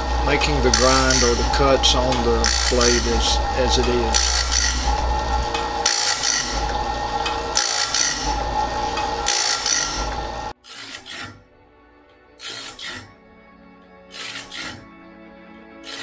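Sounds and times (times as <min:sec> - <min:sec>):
grinding wheel rasping against blade: 0:00.0 - 0:11.4, 0:12.4 - 0:13.2, 0:14.1 - 0:14.9
background music: 0:00.0 - 0:16.0.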